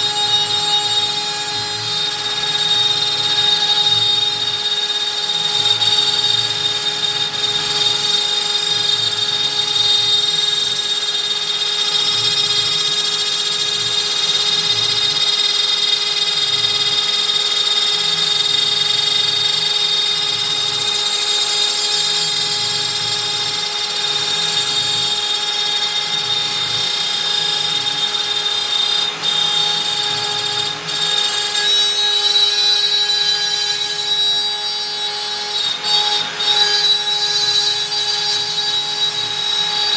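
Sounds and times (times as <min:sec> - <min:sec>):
cutter cutting through wood: 0:00.0 - 0:39.9
router spindle whine: 0:00.0 - 0:39.9.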